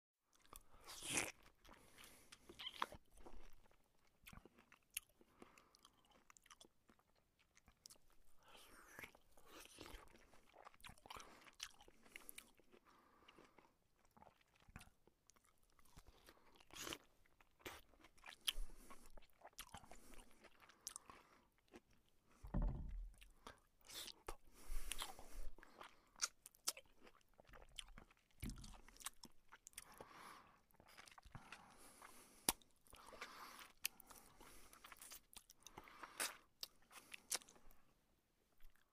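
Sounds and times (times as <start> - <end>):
person chewing noisily: 0.3 - 37.9, 38.6 - 38.9.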